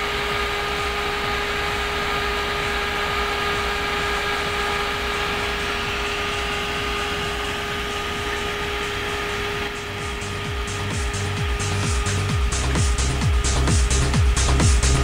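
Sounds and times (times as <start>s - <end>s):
cpu cooler fan whining: 0.0s - 15.0s.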